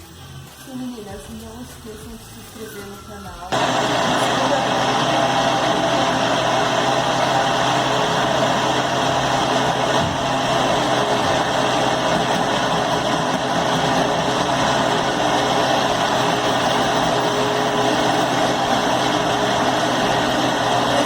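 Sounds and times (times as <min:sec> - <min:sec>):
blender motor running: 0:03.5 - 0:21.0.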